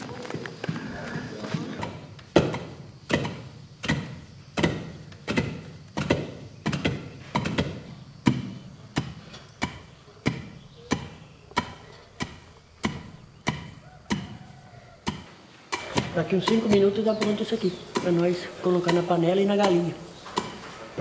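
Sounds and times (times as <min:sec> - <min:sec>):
pestles pounding in wooden mortars: 0:01.3 - 0:21.0.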